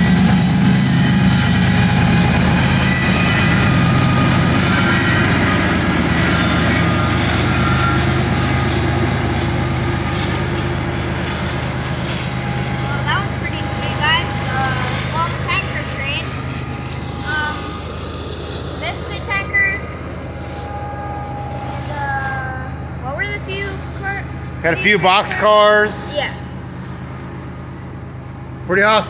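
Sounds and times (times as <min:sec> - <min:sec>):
steel wheel squeals: 0:00.0 - 0:18.2, 0:18.9 - 0:24.2
diesel locomotive rumbling: 0:00.0 - 0:29.0.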